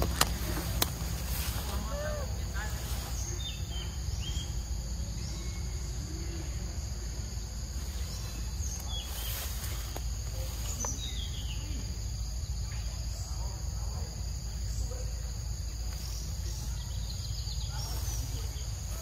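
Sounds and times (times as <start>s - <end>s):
insects droning: 0.0s - 19.0s
steady low rumble: 0.0s - 19.0s.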